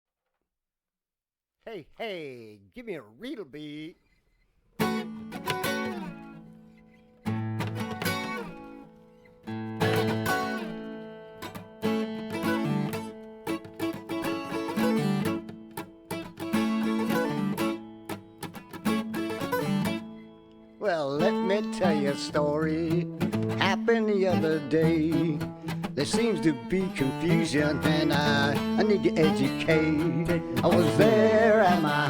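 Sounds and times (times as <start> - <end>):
guitar strumming and picking: 4.8 - 32.0.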